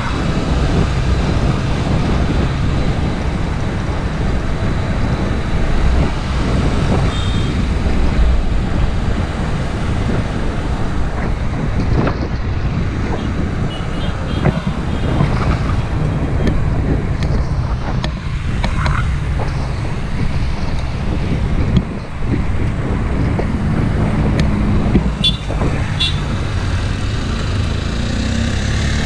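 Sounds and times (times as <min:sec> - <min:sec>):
road and traffic noise: 0:00.0 - 0:29.0
wind rushing over microphone: 0:00.0 - 0:29.0.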